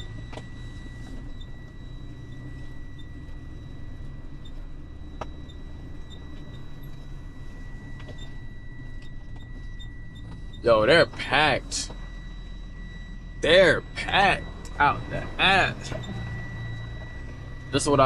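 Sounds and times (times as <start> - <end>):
truck engine low rumble: 0.0 - 18.0.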